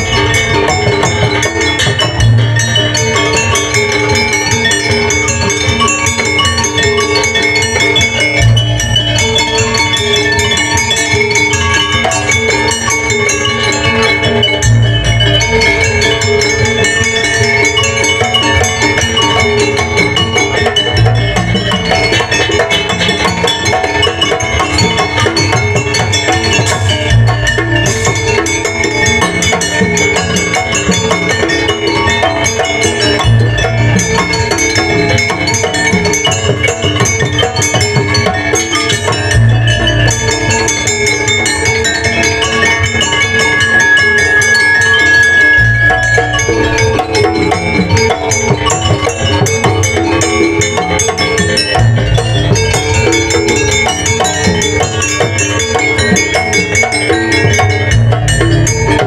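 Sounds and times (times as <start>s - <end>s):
gamelan ensemble playing: 0.0s - 59.0s.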